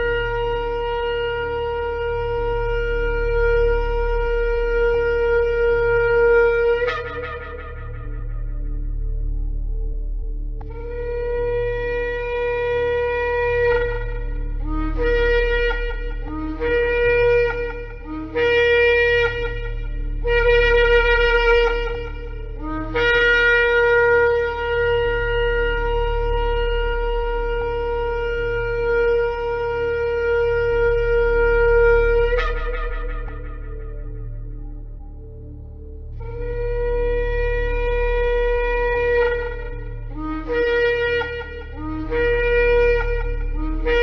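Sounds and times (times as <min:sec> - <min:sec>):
ram's horn blasts: 0:00.0 - 0:44.0
steady low hum: 0:00.0 - 0:44.0.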